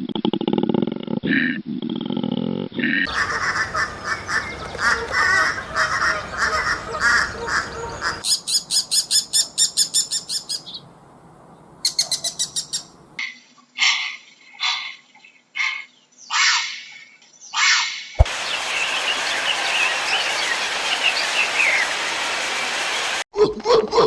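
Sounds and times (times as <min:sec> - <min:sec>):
bird calls: 0:03.1 - 0:23.2.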